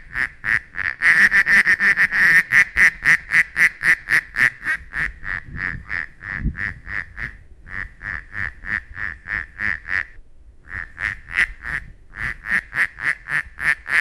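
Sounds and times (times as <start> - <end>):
duck quacking: 0.0 - 14.0.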